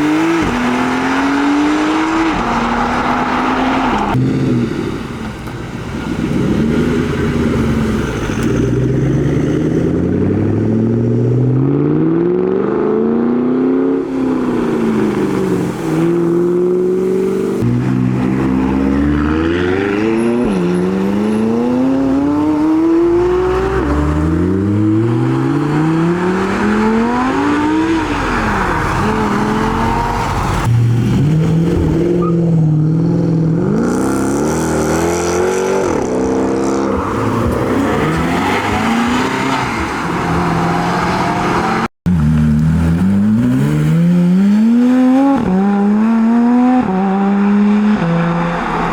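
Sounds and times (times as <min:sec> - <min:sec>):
car engines accelerating hard: 0:00.0 - 0:48.9.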